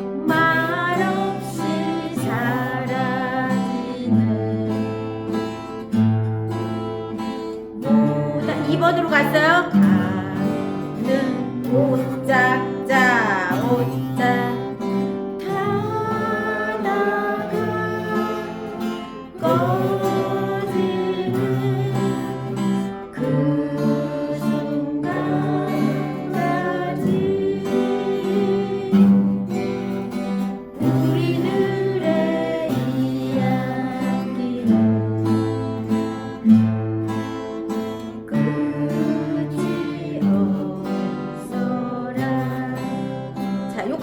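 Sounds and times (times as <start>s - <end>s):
person singing with vibrato: 0.0s - 5.8s, 7.2s - 44.0s
acoustic guitar strumming: 0.0s - 44.0s.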